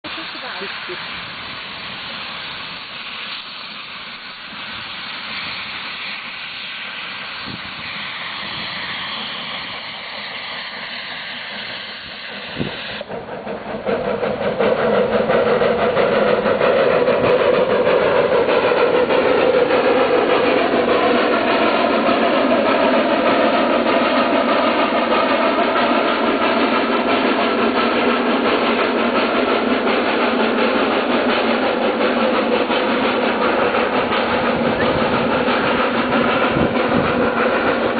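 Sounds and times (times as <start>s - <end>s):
steam locomotive hissing: 0.0s - 37.9s
steam locomotive working: 0.0s - 37.9s.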